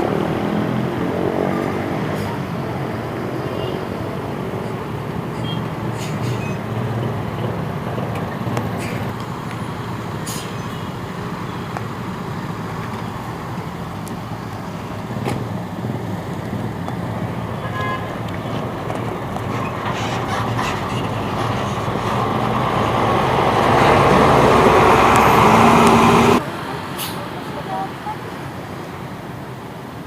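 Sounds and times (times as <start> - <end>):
roadside traffic: 0.0 - 30.0.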